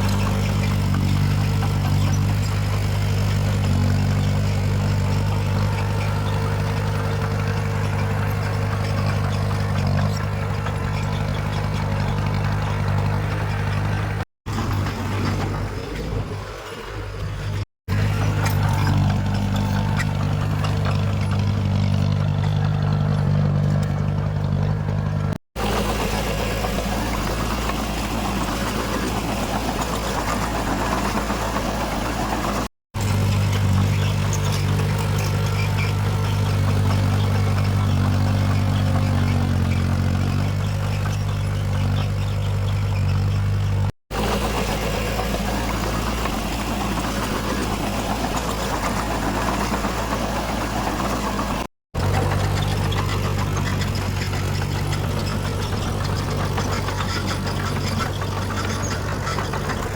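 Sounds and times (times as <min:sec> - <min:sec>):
low diesel engine hum: 0:00.0 - 0:59.9
mechanical clatter: 0:00.0 - 0:59.9.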